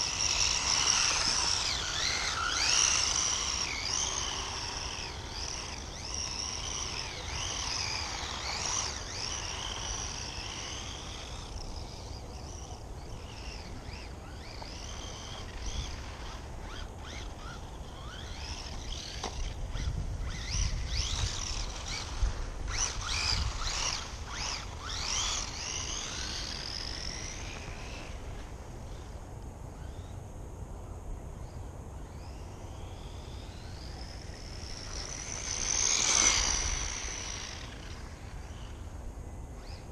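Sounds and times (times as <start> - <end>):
electric toy car motor whine: 0.0 - 29.2, 31.4 - 39.9.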